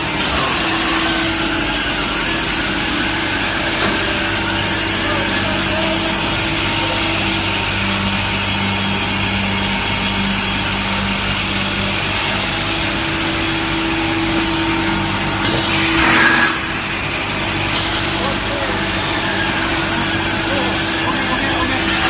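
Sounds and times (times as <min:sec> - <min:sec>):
machinery drone: 0:00.0 - 0:22.0.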